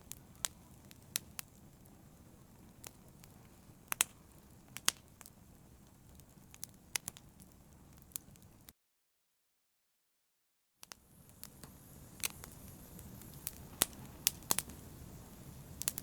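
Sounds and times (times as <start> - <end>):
fire crackling and popping: 0.0 - 8.7, 10.8 - 16.0
low rumble of flames: 0.0 - 8.7, 11.0 - 16.0.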